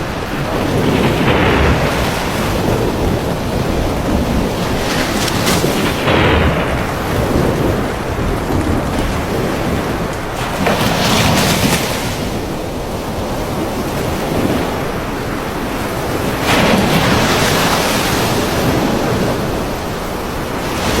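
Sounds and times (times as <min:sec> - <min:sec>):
storm wind roaring: 0:00.0 - 0:21.0.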